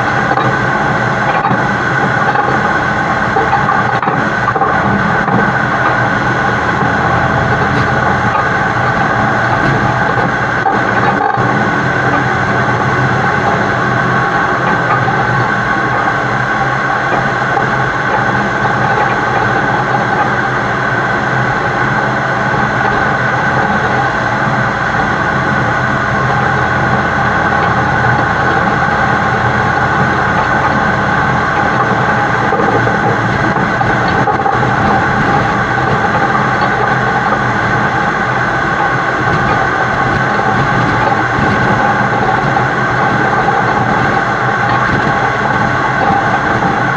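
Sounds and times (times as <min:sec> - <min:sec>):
truck engine rumble: 0:00.0 - 0:46.9
whining tones: 0:00.0 - 0:46.9.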